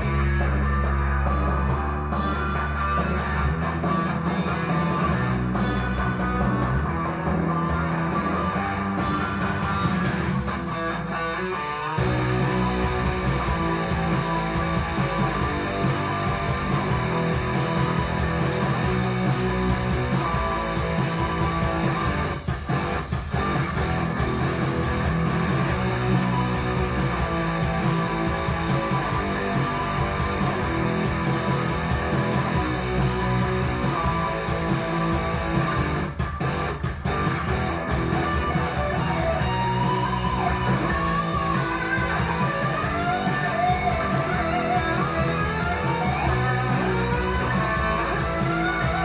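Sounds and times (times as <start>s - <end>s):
guitar music through speakers: 0.0s - 49.0s.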